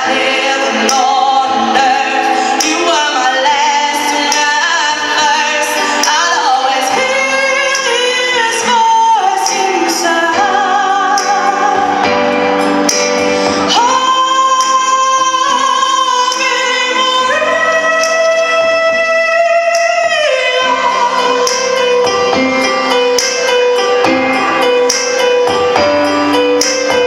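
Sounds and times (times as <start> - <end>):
instrumental accompaniment: 0.0 - 27.0
woman singing with vibrato: 0.0 - 27.0.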